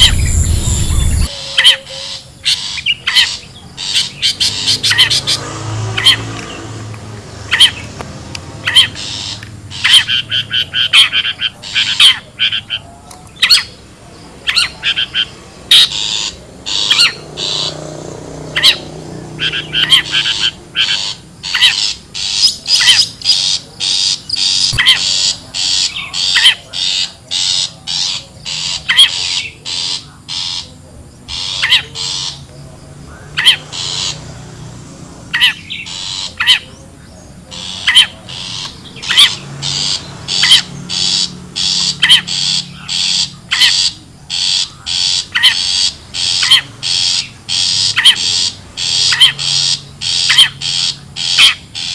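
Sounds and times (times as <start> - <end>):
shrike harsh scratchy calls: 0.0 - 8.0, 8.6 - 12.8, 13.4 - 36.8, 37.5 - 51.9.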